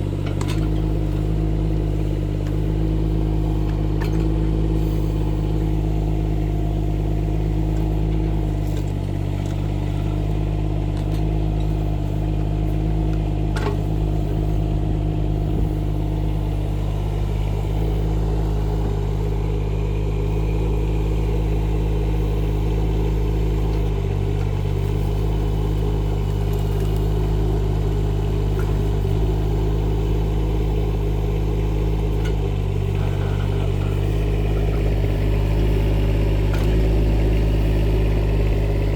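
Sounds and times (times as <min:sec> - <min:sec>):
mini excavator engine running: 0:00.0 - 0:38.9.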